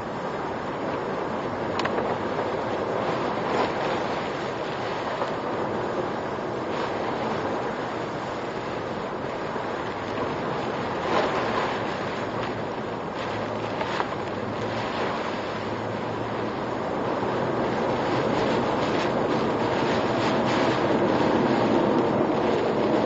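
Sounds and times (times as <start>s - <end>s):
heavy rain: 0.0s - 23.0s
typhoon wind: 0.0s - 23.0s.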